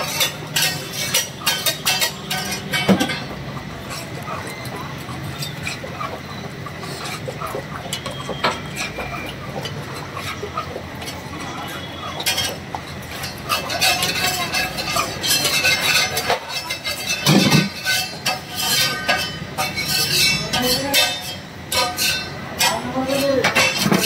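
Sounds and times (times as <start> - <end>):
metal spatula scraping griddle: 0.0 - 24.0.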